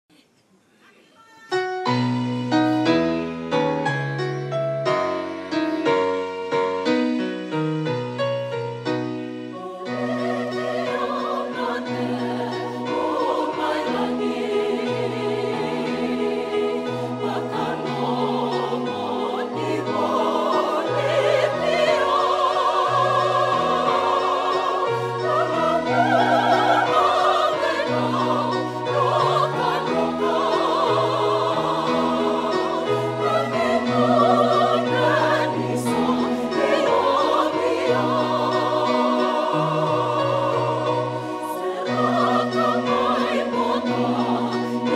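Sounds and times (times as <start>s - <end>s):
keyboard accompaniment: 1.6s - 44.9s
choir singing a hymn: 2.0s - 44.9s.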